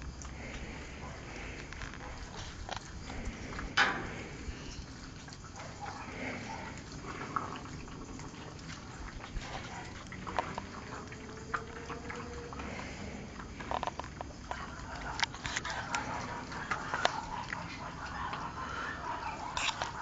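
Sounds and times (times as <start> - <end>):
puppies making small noises: 0.0 - 20.0.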